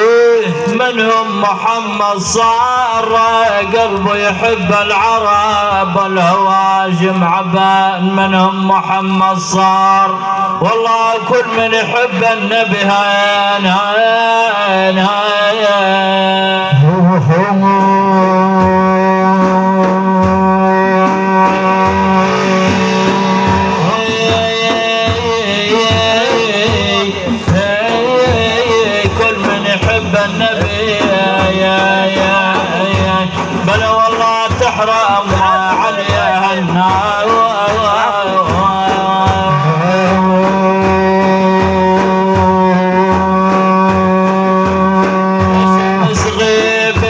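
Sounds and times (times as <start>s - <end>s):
hand drum beat: 0.0s - 5.1s, 6.6s - 15.4s, 17.3s - 47.0s
devotional song melody: 0.0s - 47.0s.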